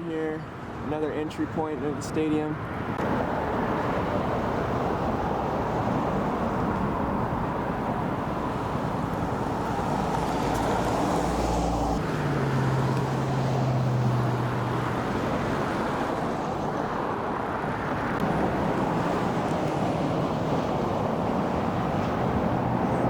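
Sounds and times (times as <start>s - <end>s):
road traffic rushing: 0.0s - 23.0s
passing vehicle engine hum: 2.6s - 23.0s.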